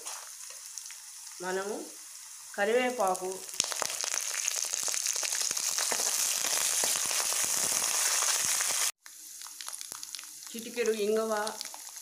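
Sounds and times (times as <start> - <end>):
hot oil crackling and sizzling: 0.0 - 12.0.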